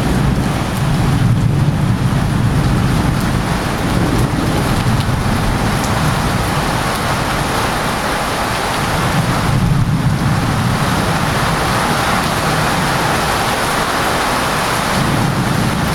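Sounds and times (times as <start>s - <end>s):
heavy rain pouring: 0.0s - 15.9s
thunder rumbling: 0.0s - 15.9s.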